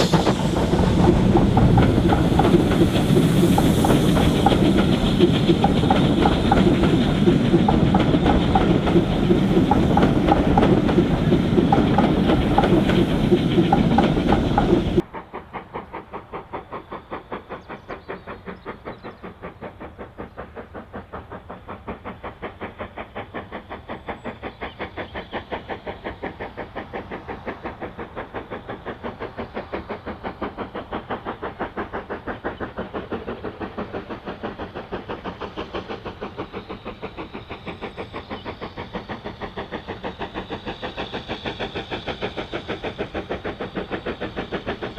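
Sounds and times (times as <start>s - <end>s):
steam locomotive chuffing: 0.0s - 44.9s
steam train running: 0.0s - 44.9s.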